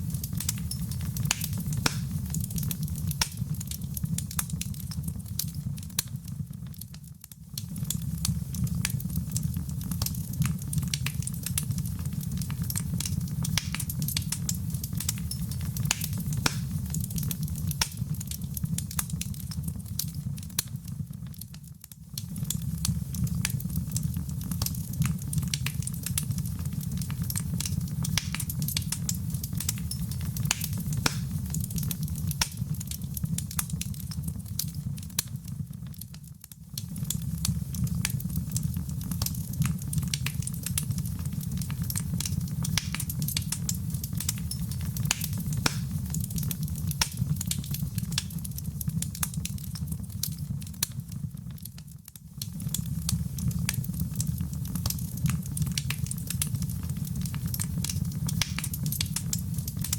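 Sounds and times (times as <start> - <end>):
low rumble of flame: 0.0 - 59.9
wood fire pops and snaps: 0.0 - 59.9.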